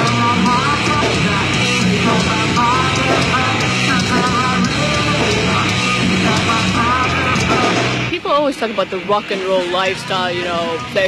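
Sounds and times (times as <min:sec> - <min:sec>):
distorted electric guitars: 0:00.0 - 0:11.0
drums and crashing cymbals: 0:00.0 - 0:11.0.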